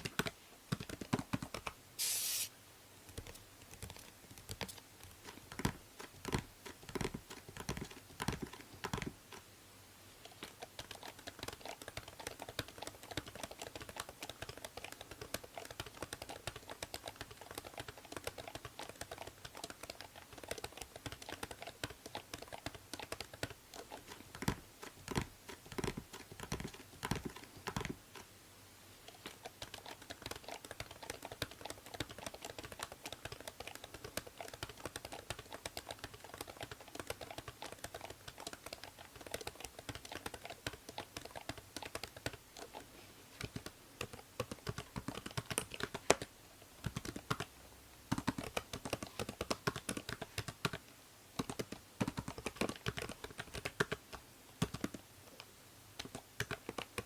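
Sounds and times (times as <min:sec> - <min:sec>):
typing on computer keyboard: 0:00.0 - 0:01.8, 0:03.1 - 0:09.4, 0:10.2 - 0:28.3, 0:29.1 - 0:47.5, 0:48.1 - 0:50.8, 0:51.4 - 0:55.0, 0:56.0 - 0:57.0
faint microphone hiss: 0:00.0 - 0:57.0.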